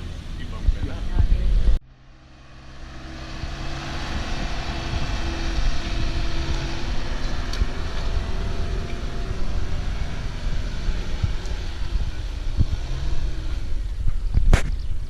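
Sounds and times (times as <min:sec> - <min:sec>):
off-road vehicle engine rumbling: 0:00.0 - 0:15.0.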